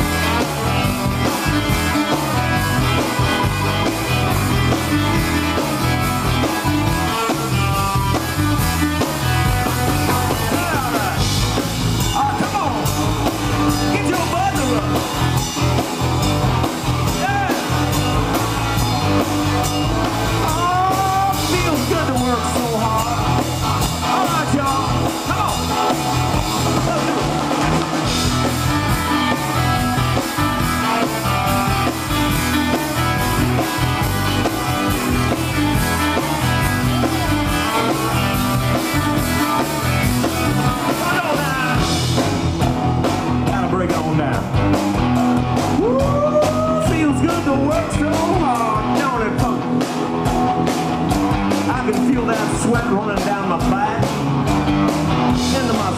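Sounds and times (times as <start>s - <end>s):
bass guitar: 0.0s - 55.9s
drum kit beat: 0.0s - 55.9s
electric guitars: 0.0s - 55.9s.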